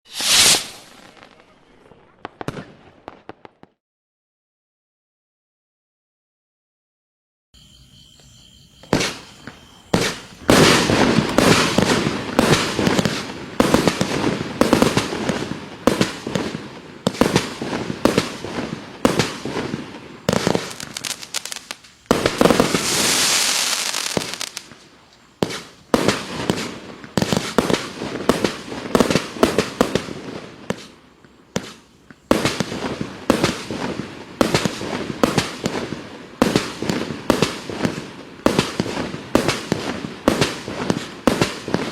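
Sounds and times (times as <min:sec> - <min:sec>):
firework hissing: 0:00.1 - 0:01.5, 0:08.9 - 0:41.9
firework cake firing: 0:00.1 - 0:03.8, 0:08.9 - 0:41.9.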